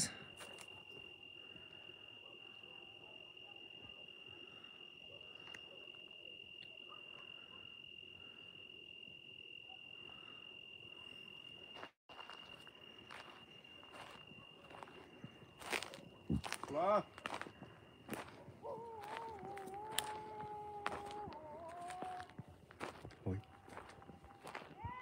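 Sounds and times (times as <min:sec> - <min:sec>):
cricket trilling: 0:00.0 - 0:25.0.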